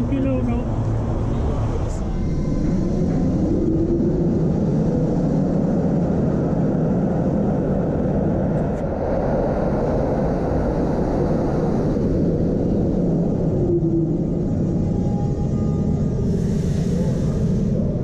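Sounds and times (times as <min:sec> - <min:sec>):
streetcar wheels and motors rumbling: 0:00.0 - 0:18.0.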